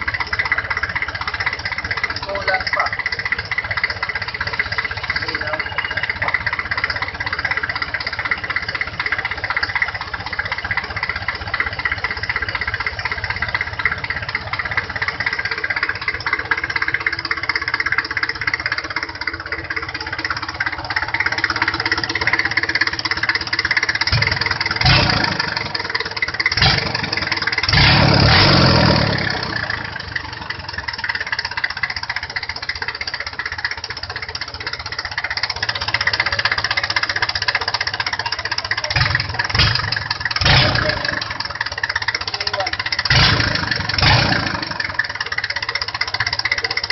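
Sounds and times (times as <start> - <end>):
diesel engine idling and revving: 0.0 - 46.9.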